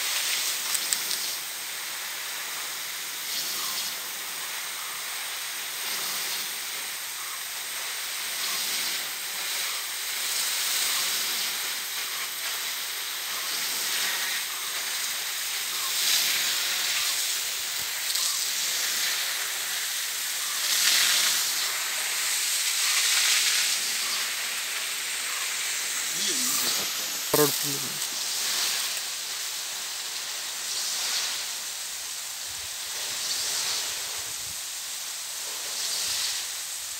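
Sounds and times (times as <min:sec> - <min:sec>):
sprinkler spraying water: 0:00.0 - 0:36.9.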